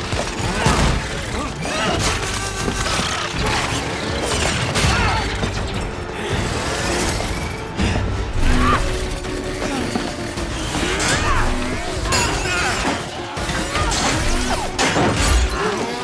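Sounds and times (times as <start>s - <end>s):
action film music: 0.0s - 16.0s.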